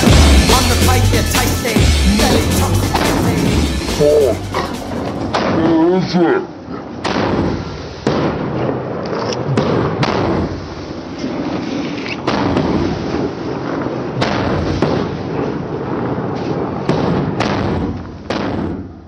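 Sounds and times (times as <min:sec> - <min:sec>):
fireworks crackling hiss: 0:00.0 - 0:05.4, 0:07.3 - 0:08.9, 0:10.3 - 0:19.0
firework bangs: 0:00.0 - 0:05.9, 0:06.6 - 0:19.0.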